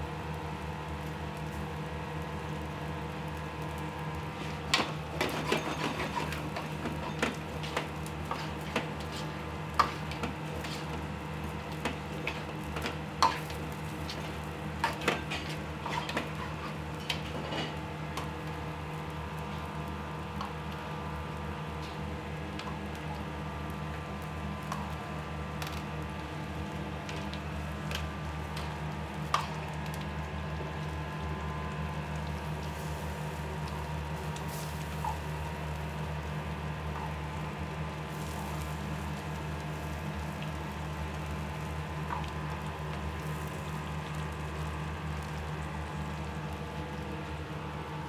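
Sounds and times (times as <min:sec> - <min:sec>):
low kitchen hum: 0:00.0 - 0:48.0
sauce bubbling in pans: 0:00.1 - 0:48.0.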